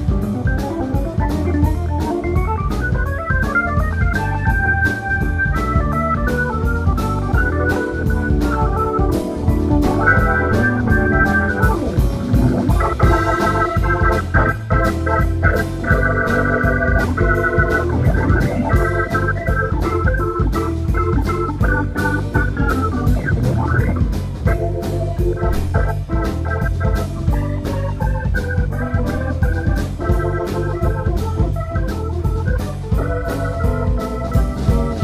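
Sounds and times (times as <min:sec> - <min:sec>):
bass guitar: 0:00.0 - 0:35.0
organ playing chords: 0:00.0 - 0:35.0
steady drum beat: 0:00.0 - 0:35.0.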